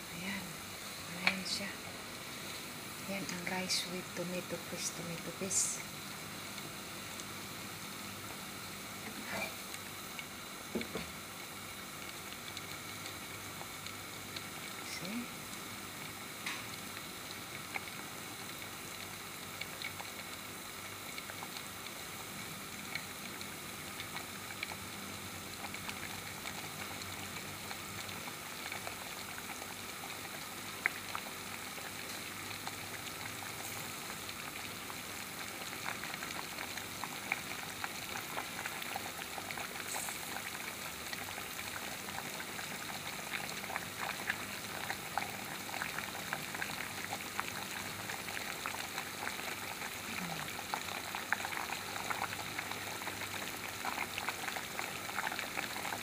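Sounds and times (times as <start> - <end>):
pot boiling and bubbling: 0.0 - 56.0.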